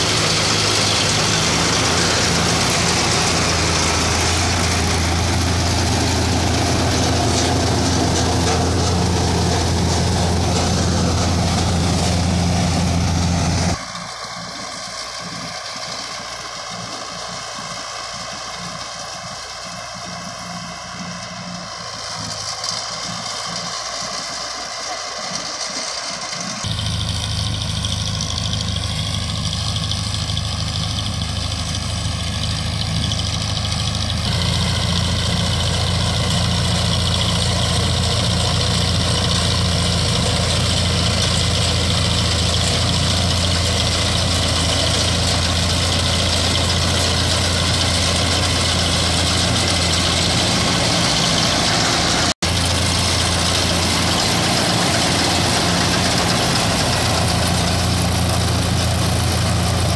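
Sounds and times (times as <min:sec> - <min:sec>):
harvesting machinery noise: 0:00.0 - 0:59.9
tractor engine drone: 0:00.0 - 0:59.9.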